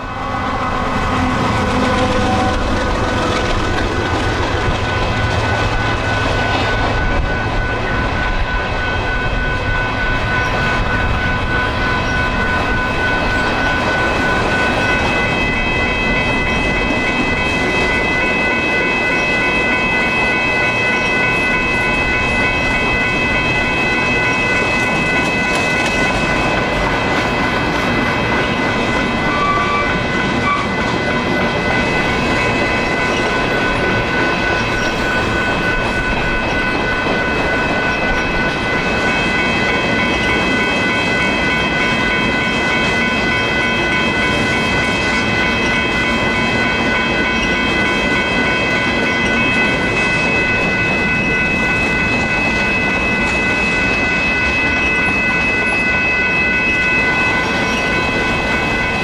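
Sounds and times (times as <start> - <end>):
freight train cars rolling on rails: 0.0 - 59.0
high-pitched ringing tones: 0.0 - 59.0.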